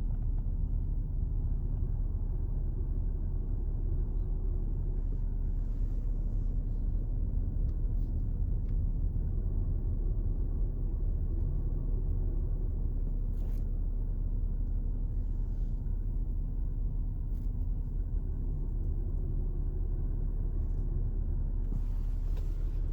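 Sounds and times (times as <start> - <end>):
low rumble inside car cabin: 0.0 - 22.9
low vibrating hum: 0.0 - 22.9.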